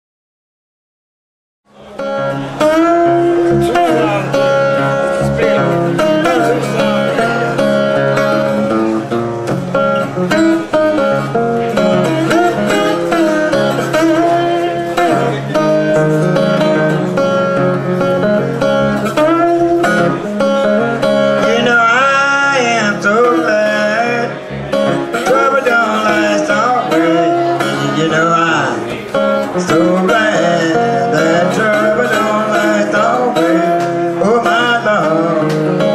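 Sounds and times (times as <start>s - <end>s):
acoustic guitar picking: 1.7s - 35.9s.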